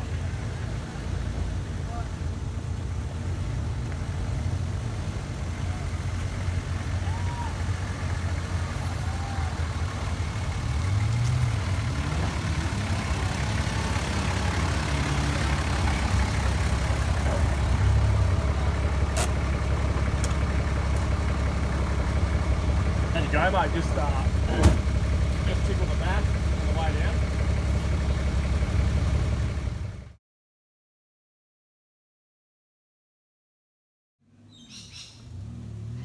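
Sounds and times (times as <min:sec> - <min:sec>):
vehicle engine running: 0:00.0 - 0:30.2, 0:34.2 - 0:36.0.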